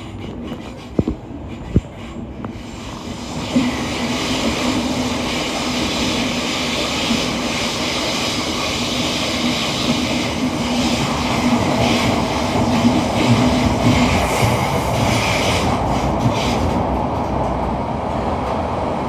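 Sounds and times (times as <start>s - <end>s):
train wheels roaring on rail: 0.0s - 19.0s.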